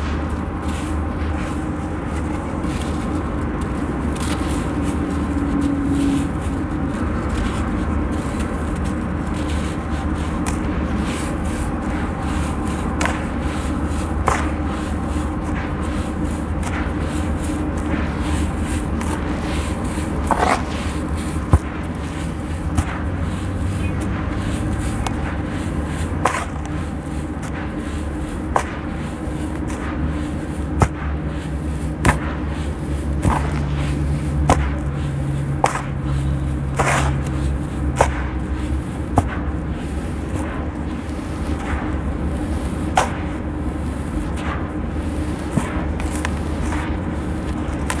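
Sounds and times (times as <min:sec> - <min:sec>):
low hum: 0:00.0 - 0:48.0.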